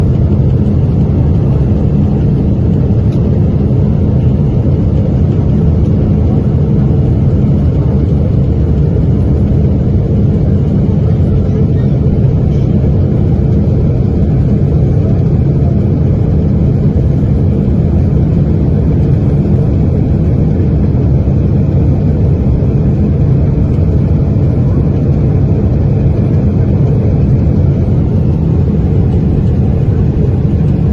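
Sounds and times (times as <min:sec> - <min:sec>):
airliner jet engines rumbling: 0:00.0 - 0:30.9.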